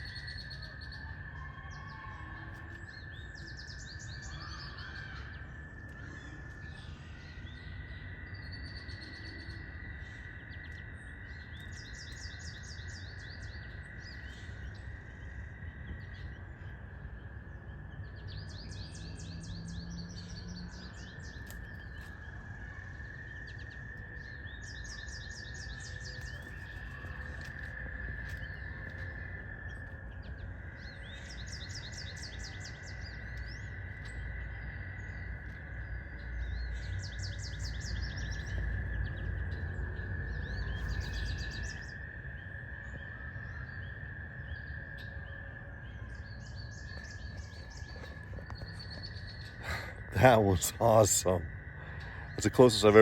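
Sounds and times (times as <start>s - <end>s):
songbirds trilling: 0.0s - 53.0s.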